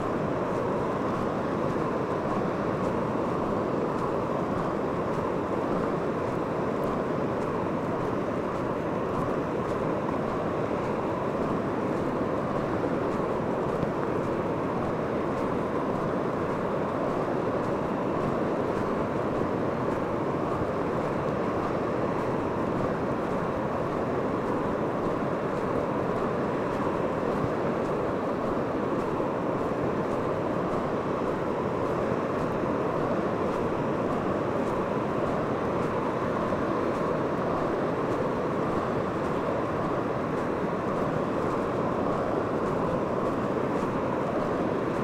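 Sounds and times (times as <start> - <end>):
ocean surf: 0.0 - 45.0
wind: 0.0 - 45.0.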